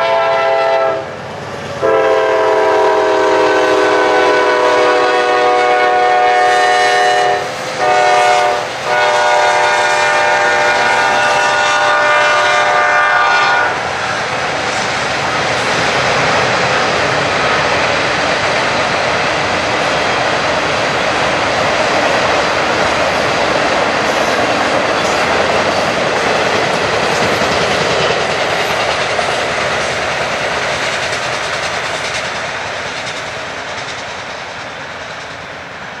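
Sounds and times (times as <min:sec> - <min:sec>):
freight train rolling past: 0:00.0 - 0:36.0.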